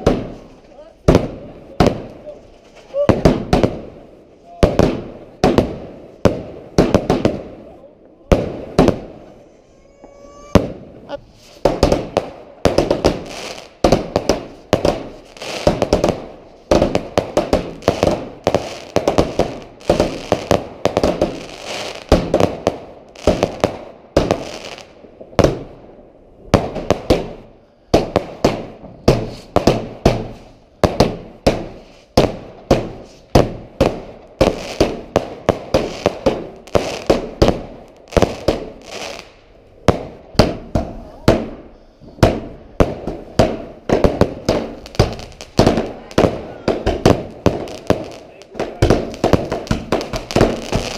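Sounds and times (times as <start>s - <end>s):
fireworks bangs with crackling: 0.0s - 50.9s.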